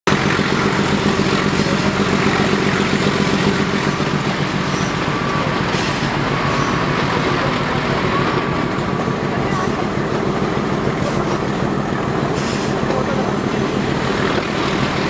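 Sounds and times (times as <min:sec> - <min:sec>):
diesel locomotive engine running: 0:00.0 - 0:15.0
rail noise: 0:00.1 - 0:15.0.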